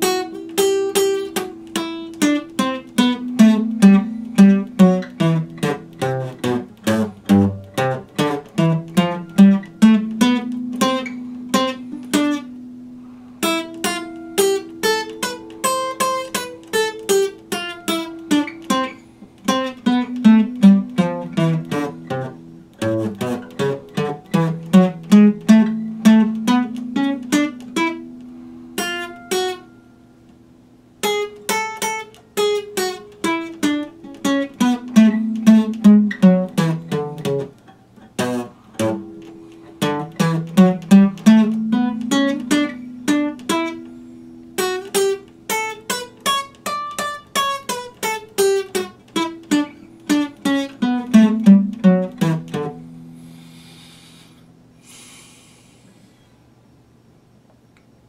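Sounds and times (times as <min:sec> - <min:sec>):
acoustic guitar picked: 0:00.0 - 0:57.1.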